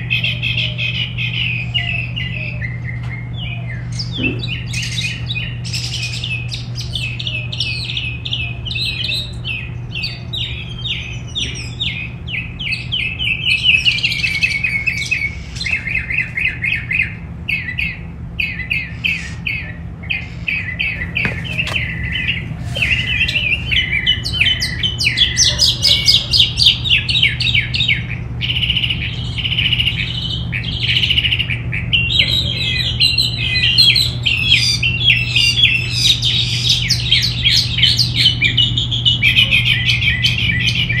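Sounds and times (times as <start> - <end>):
songbirds chirping: 0.0 - 41.0
steady low hum: 0.0 - 41.0.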